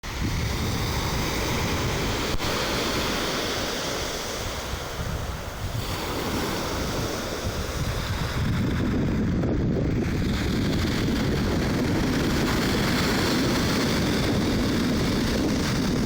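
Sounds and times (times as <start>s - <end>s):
sea surf washing on shore: 0.0s - 16.0s
wind buffeting microphone: 0.0s - 16.0s.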